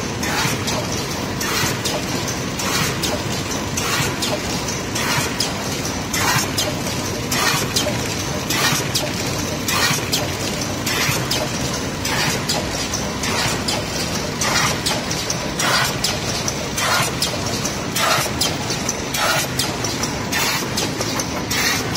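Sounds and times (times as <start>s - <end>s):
packaging machine running: 0.0s - 21.9s.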